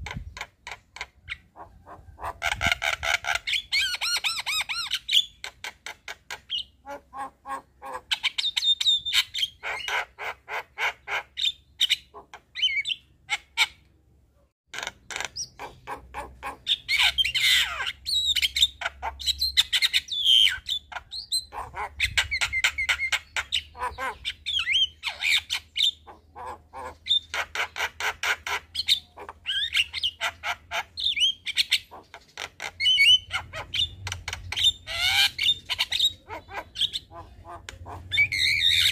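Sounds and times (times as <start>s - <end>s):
myna bird singing: 0.0s - 13.9s, 14.8s - 38.9s.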